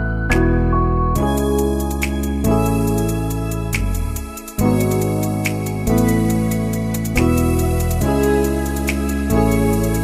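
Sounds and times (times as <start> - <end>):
keyboard chords: 0.0 - 10.0
light ticking beat: 1.2 - 10.0.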